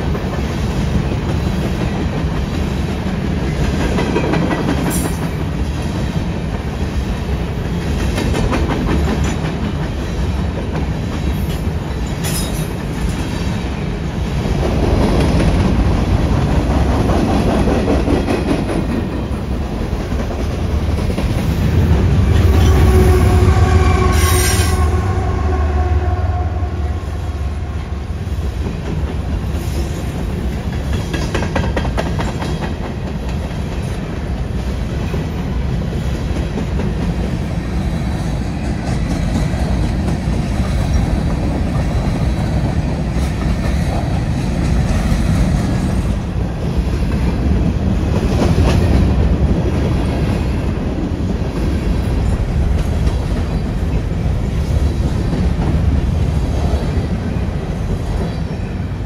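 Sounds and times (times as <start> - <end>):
diesel locomotive engine rumble: 0.0 - 59.0
train wheels clacking and rumbling: 0.0 - 59.0.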